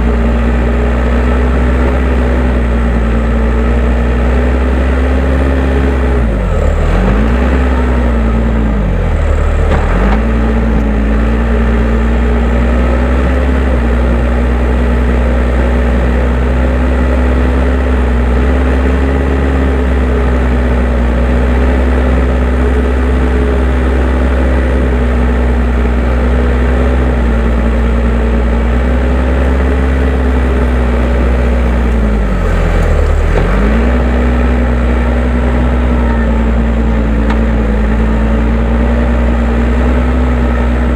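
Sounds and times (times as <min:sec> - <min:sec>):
diesel engine running: 0:00.0 - 0:40.9
loader scraping ground: 0:00.0 - 0:40.9.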